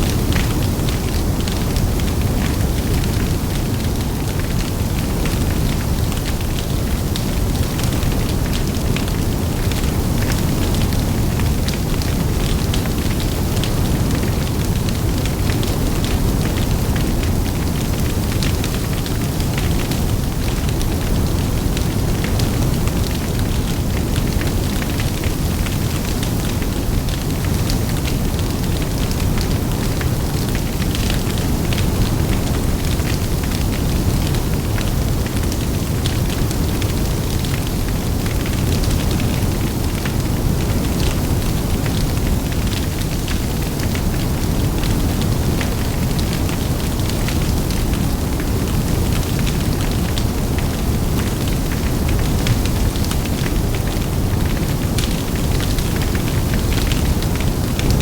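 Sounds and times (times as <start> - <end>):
large fire burning: 0.0 - 58.0
wind: 0.0 - 58.0
fire crackles and pops: 0.1 - 58.0.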